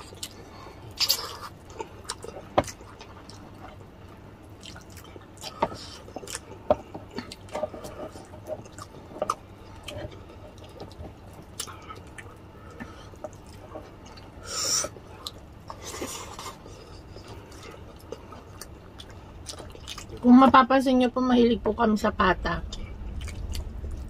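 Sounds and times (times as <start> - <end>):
wet chewing and lip-smacking: 0.0 - 3.8, 4.5 - 20.2, 22.7 - 24.0.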